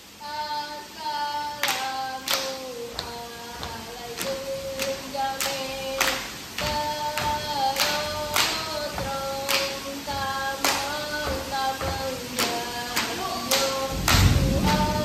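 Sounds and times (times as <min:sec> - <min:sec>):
women singing in unison: 0:00.0 - 0:15.0
hand claps and body slaps: 0:01.6 - 0:15.0.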